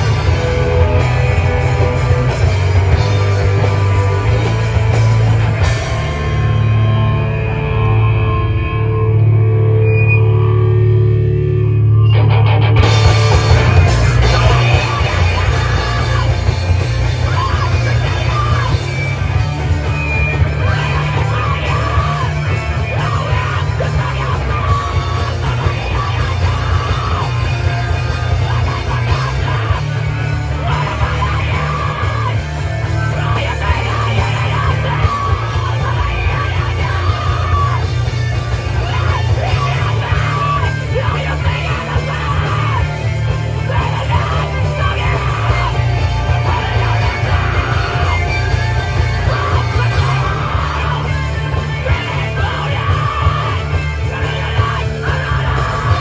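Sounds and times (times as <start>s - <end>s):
yelled vocals: 0.0s - 9.8s, 12.1s - 56.0s
live rock band playing: 0.0s - 56.0s
low bass drone: 0.0s - 56.0s.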